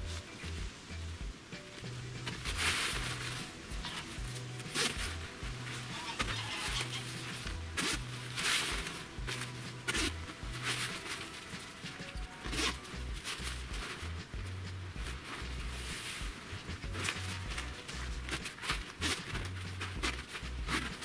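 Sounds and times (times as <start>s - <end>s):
background music with bass: 0.0s - 21.0s
nylon curtain rustling: 1.7s - 21.0s.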